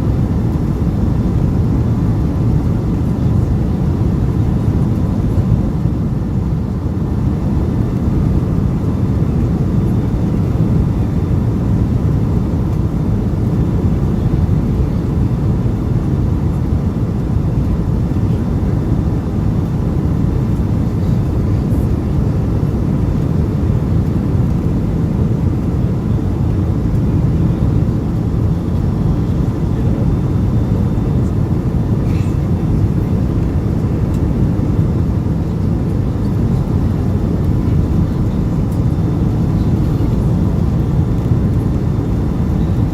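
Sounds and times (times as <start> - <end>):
airplane cabin engine rumble: 0.0 - 42.9.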